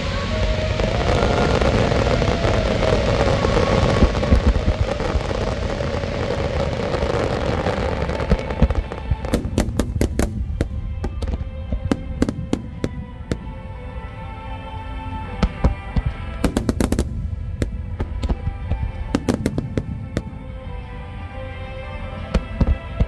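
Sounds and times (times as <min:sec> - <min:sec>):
fireworks bursting: 0:00.0 - 0:14.0, 0:15.3 - 0:20.8, 0:22.2 - 0:23.0.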